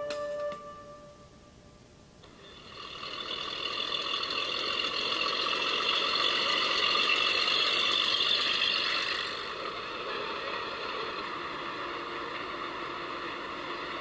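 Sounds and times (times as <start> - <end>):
high-pitched whine: 0.0 - 14.0
fire engine running: 2.2 - 14.0.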